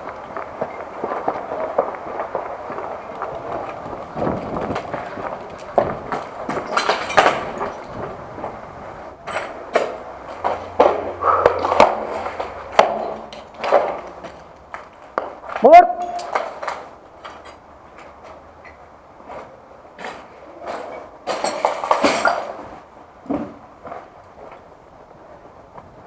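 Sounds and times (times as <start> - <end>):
footsteps: 0.0 - 26.0.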